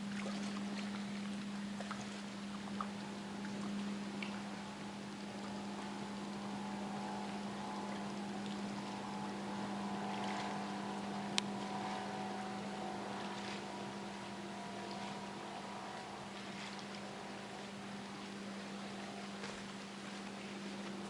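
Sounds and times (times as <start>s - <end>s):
outboard engine drone: 0.0s - 21.0s.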